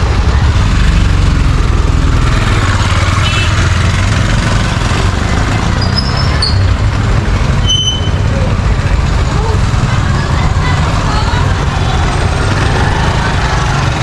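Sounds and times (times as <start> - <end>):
street traffic engines rumbling: 0.0 - 14.0.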